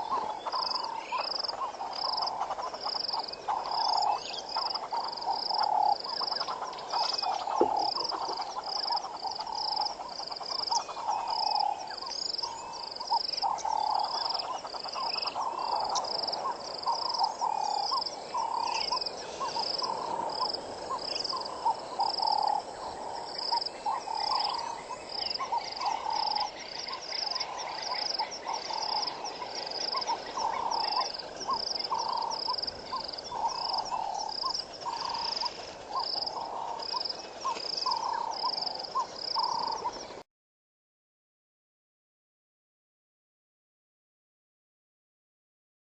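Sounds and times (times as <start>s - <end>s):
hornbills clucking: 0.0s - 40.2s.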